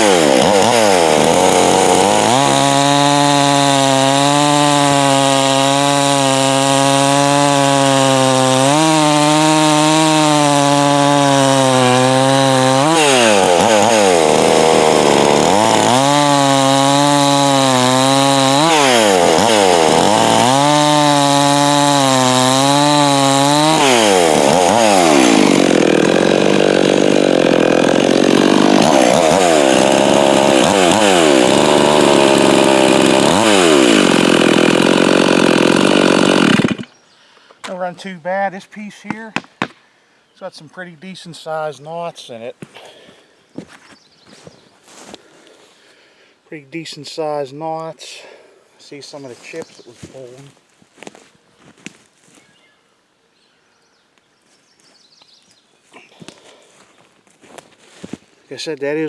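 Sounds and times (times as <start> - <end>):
chainsaw cutting log: 0.0 - 37.0, 37.6 - 39.8, 42.7 - 46.0, 46.8 - 52.4.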